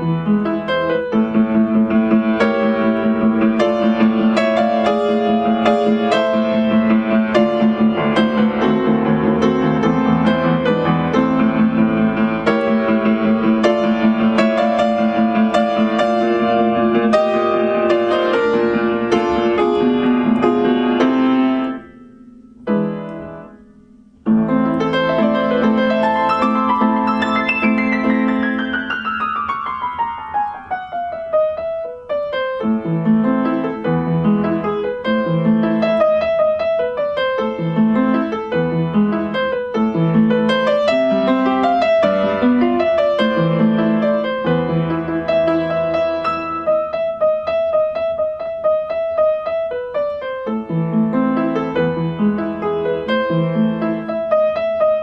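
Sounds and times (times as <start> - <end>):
christmas piano music: 0.0 - 55.0.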